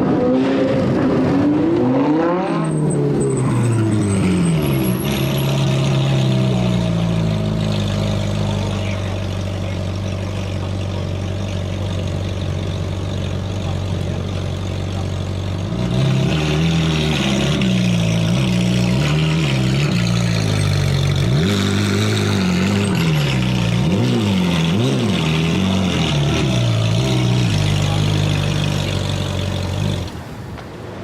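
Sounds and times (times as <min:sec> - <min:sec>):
car engine revving: 0:00.0 - 0:30.4.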